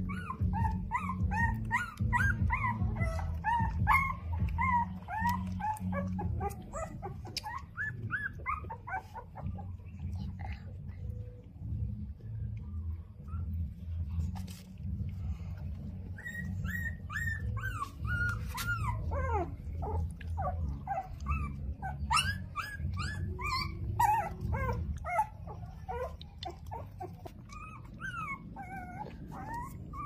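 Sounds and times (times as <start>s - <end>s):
puppies whimpering and yelping: 0.0s - 30.0s.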